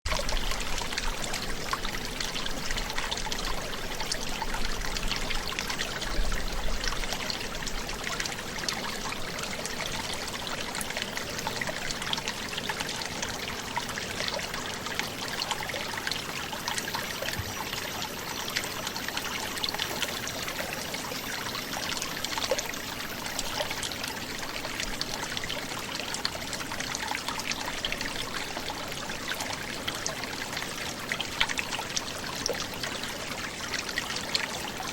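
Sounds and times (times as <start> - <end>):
brook gurgling: 0.1 - 34.9.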